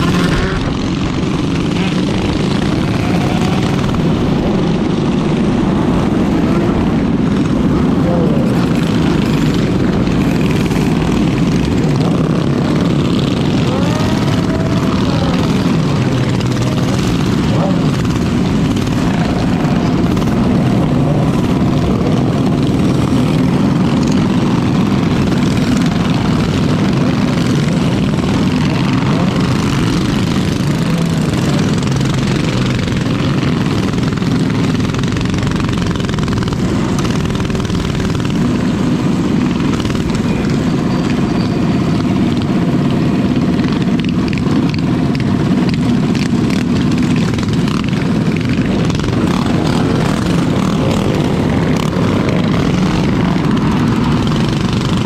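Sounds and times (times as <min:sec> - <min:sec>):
mini bike engines running: 0:00.0 - 0:55.0.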